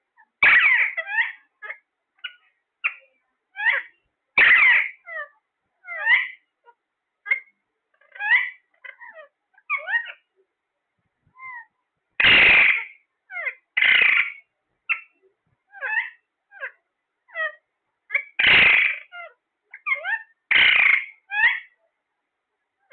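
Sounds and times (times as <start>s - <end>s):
parrot harsh squawks: 0.2s - 6.4s, 7.3s - 10.2s, 11.4s - 15.1s, 15.7s - 21.8s
parrot squeaky chirps: 0.2s - 10.3s, 11.4s - 21.8s.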